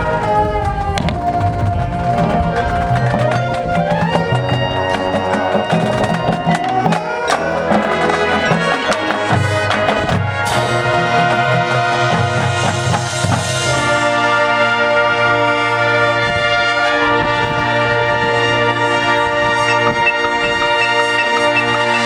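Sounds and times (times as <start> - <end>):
brass chords: 0.0 - 22.0
drumline percussion: 0.0 - 22.0.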